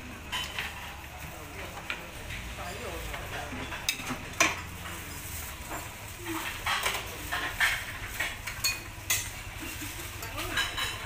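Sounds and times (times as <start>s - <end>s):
spoons clinking against plates and pots: 0.2s - 1.1s, 1.7s - 11.0s.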